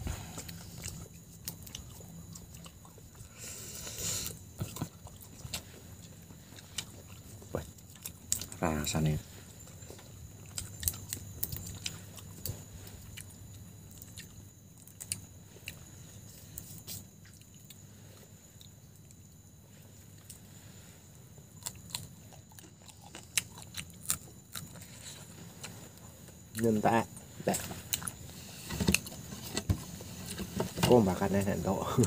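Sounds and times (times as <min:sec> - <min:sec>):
chewing and crunching: 0:00.0 - 0:32.0.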